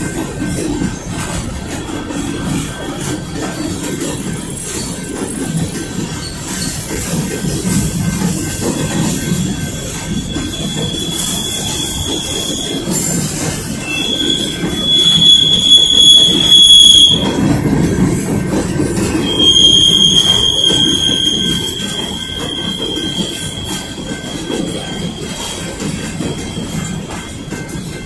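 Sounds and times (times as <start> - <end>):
train wheels rumbling on rails: 0.0 - 28.0
high wheel squeal: 0.4 - 17.6, 18.8 - 28.0.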